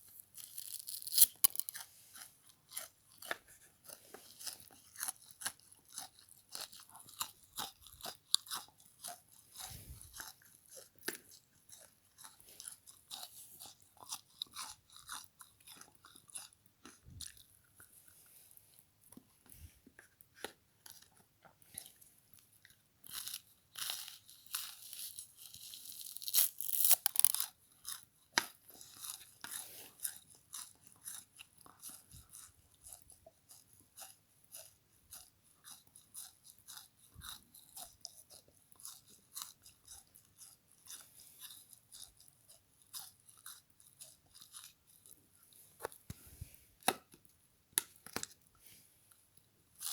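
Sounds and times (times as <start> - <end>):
chewing frozen sponge crunching: 0.0 - 49.9.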